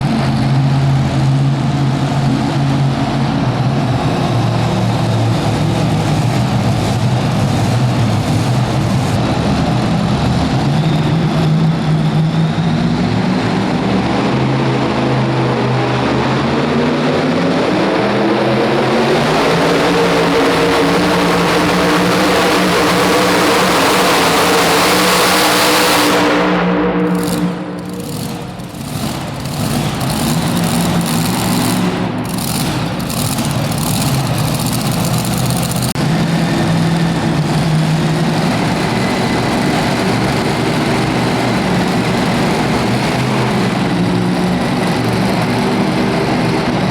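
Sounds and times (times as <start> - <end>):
truck engine at full throttle: 0.0 - 46.9.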